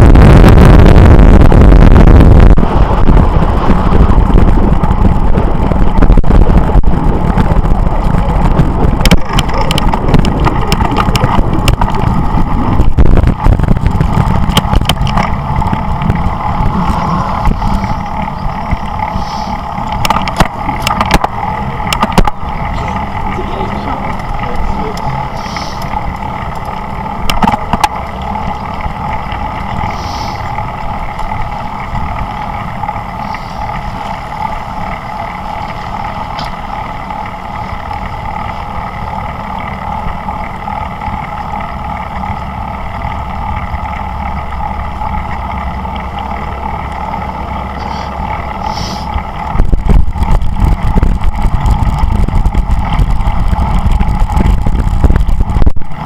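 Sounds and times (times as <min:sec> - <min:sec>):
constant whine: 0:00.0 - 0:56.0
road and wind noise: 0:00.0 - 0:56.0
wind buffeting on microphone: 0:00.0 - 0:56.0.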